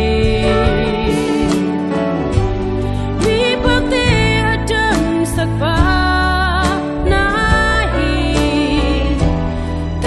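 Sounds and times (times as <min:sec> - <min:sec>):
woman singing: 0:00.0 - 0:02.0, 0:03.1 - 0:10.0
instrumental backing with bass: 0:00.0 - 0:10.0.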